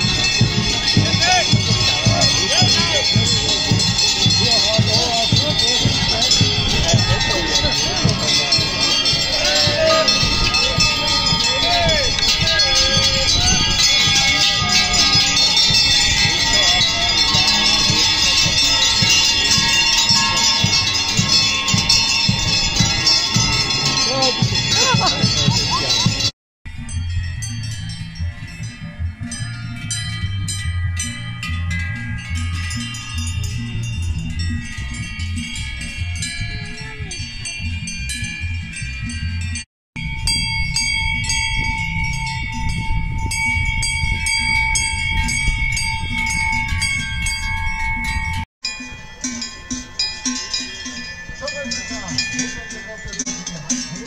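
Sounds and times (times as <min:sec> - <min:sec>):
cowbells clanking: 0:00.0 - 0:54.0.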